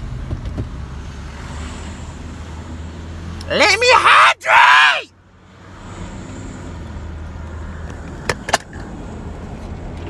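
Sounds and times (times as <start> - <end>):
car engine and road hum: 0.0 - 10.0.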